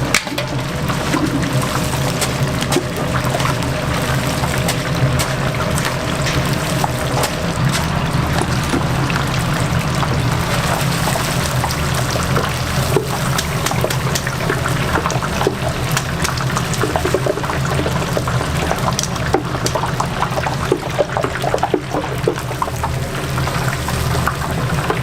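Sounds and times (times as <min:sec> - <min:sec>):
chicken frying in hot oil: 0:00.0 - 0:25.0.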